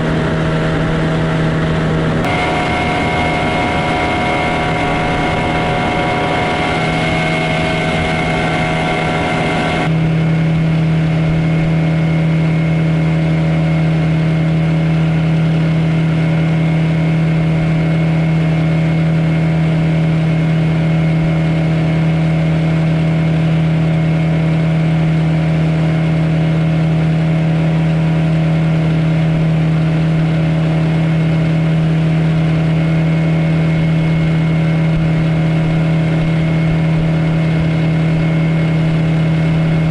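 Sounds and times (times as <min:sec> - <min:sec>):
outboard motor running: 0:00.0 - 0:39.9
water rushing at boat hull: 0:00.0 - 0:39.9.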